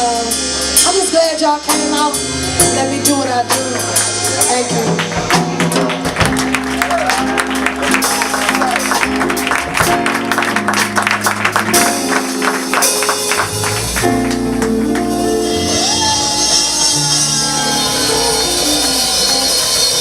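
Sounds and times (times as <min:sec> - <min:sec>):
held keyboard chords: 0:00.0 - 0:20.0.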